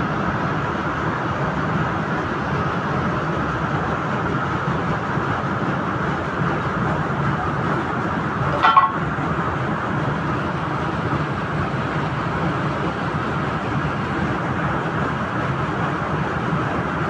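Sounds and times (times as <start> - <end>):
steady background rushing noise: 0.0 - 17.0.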